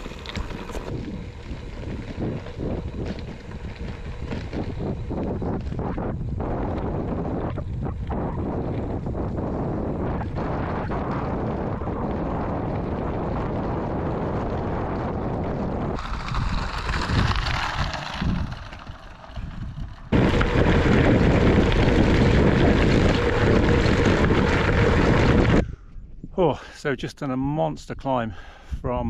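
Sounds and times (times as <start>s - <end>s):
wind buffeting microphone: 0.0s - 26.5s.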